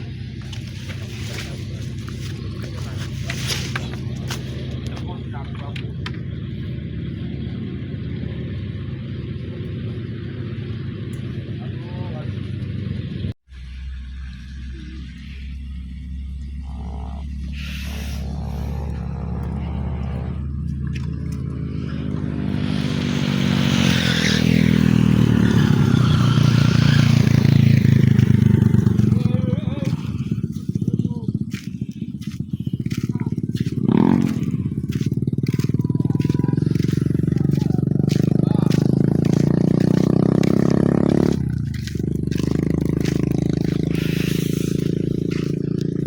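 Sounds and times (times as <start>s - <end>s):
heavy vehicle approaching: 0.0s - 46.0s.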